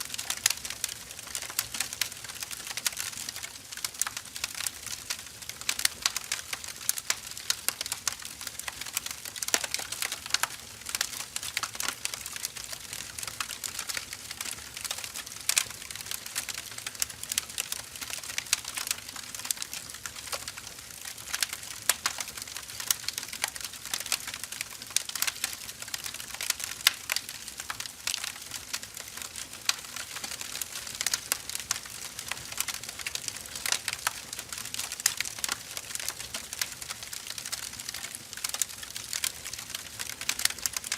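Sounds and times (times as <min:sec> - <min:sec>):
firewood crackling: 0:00.0 - 0:40.9.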